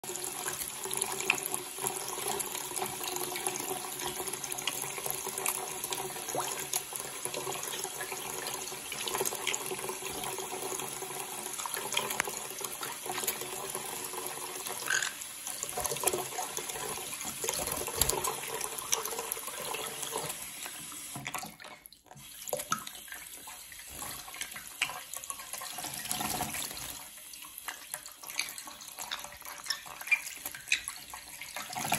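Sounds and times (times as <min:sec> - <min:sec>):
tap water running into bowl: 0:00.1 - 0:31.9.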